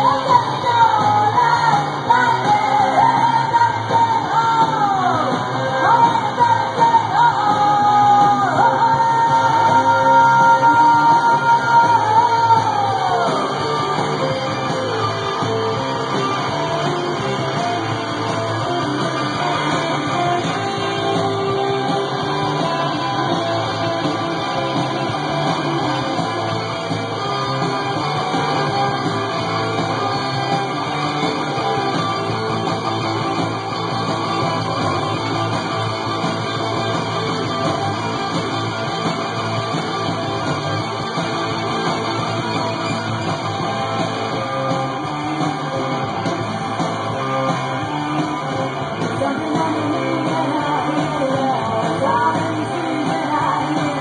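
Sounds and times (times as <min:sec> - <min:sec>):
punk rock on vinyl: 0:00.0 - 0:54.0.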